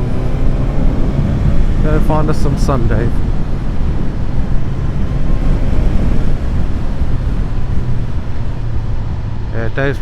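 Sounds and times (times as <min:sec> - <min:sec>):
motorcycle engine droning: 0:00.0 - 0:10.0
wind rushing over microphone: 0:00.0 - 0:10.0.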